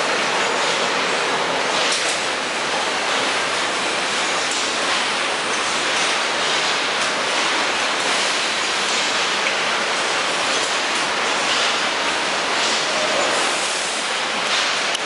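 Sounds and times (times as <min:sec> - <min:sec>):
production line machinery noise: 0:00.0 - 0:15.0.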